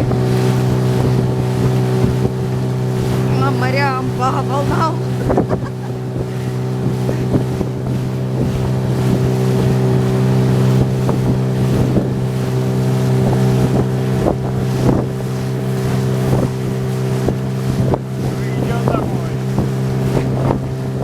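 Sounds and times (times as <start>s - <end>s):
boat motor running: 0.0s - 21.0s
waves splashing: 0.0s - 21.0s
wind on microphone: 0.0s - 21.0s.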